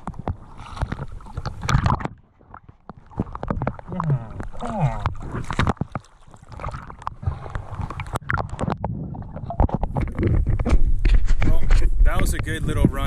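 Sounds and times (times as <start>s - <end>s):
river water splashing: 0.0s - 10.6s
dog paddling in water: 0.0s - 11.5s.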